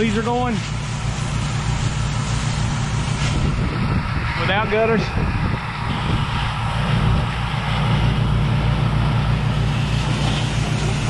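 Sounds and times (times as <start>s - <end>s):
high-pressure spray hissing: 0.0s - 11.0s
pressure washer engine drone: 0.0s - 11.0s.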